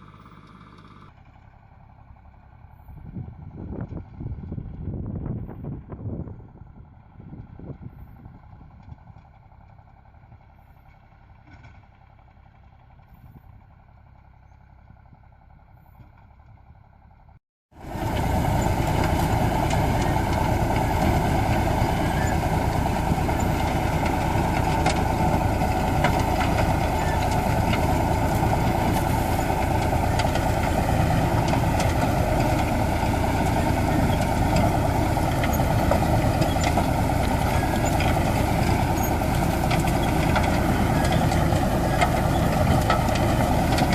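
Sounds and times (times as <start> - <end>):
tractor engine under load: 0.0 - 43.9.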